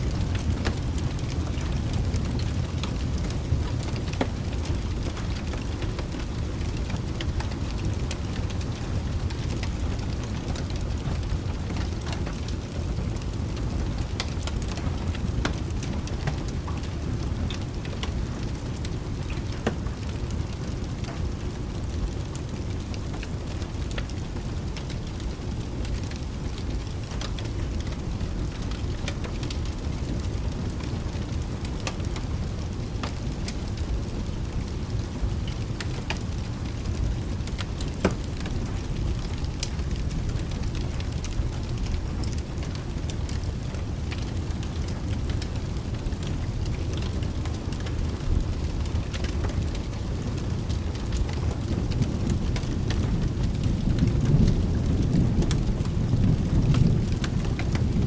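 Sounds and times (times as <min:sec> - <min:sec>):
fireplace crackling: 0:00.0 - 0:54.1
continuous low rumble: 0:00.0 - 0:58.0
steady rain: 0:00.0 - 0:58.0.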